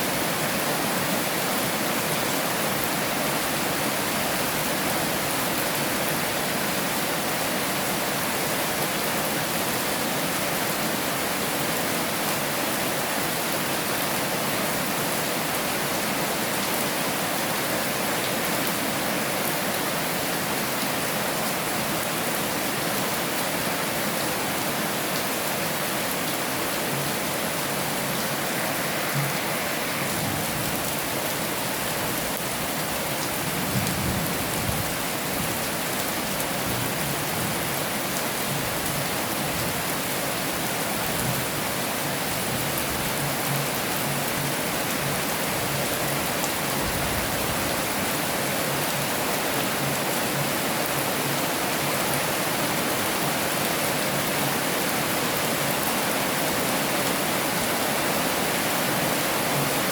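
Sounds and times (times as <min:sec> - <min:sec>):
heavy rain hiss: 0:00.0 - 0:59.9.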